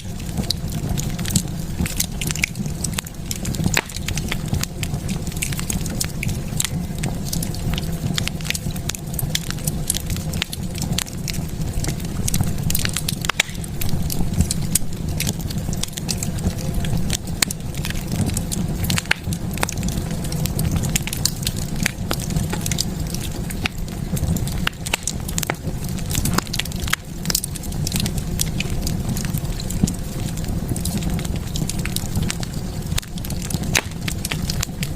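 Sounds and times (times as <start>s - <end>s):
fire crackling and popping: 0.0s - 34.9s
fire flame rumble: 0.0s - 34.9s.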